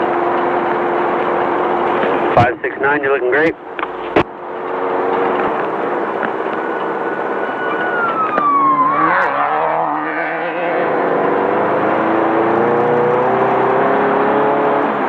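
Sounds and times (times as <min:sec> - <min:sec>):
car engine revving: 0:00.0 - 0:15.0
road noise: 0:00.0 - 0:15.0.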